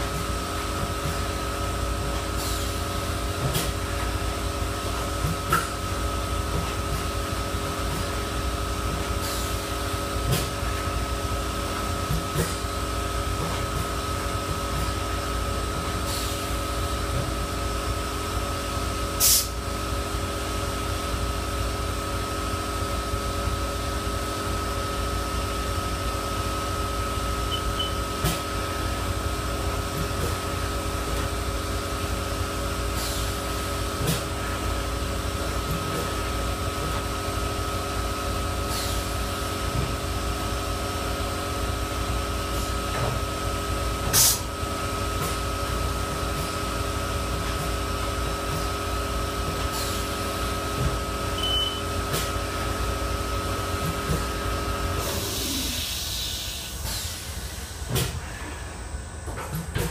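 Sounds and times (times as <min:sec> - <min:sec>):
machine hum with high whine: 0:00.0 - 0:59.9.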